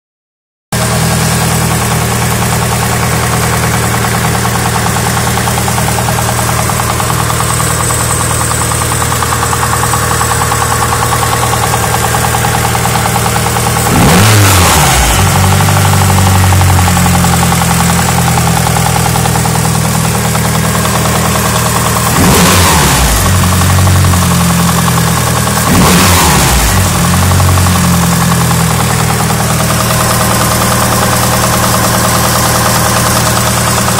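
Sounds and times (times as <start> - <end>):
car engine idling and revving: 0.8 - 33.9.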